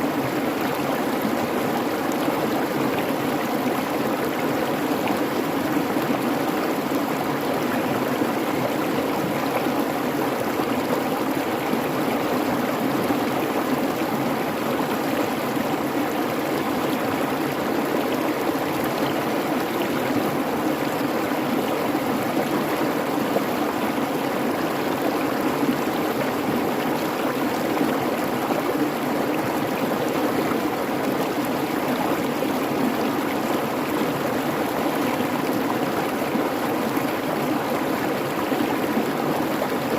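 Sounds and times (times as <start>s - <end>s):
creek babbling: 0.0s - 39.9s.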